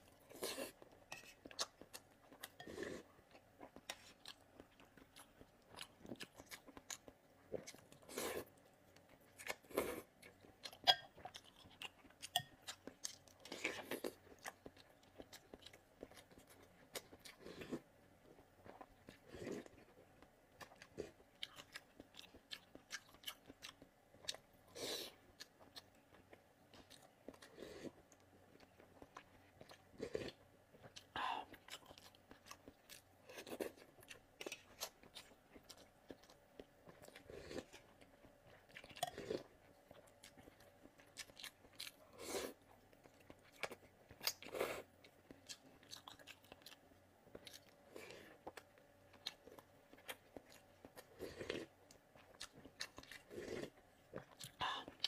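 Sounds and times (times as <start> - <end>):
chewing: 0.0 - 55.0.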